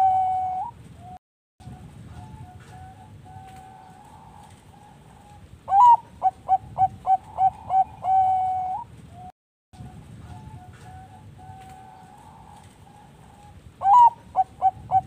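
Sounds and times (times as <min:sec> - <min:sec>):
distant doves cooing: 0:00.0 - 0:15.0
dove singing coos: 0:00.0 - 0:15.0.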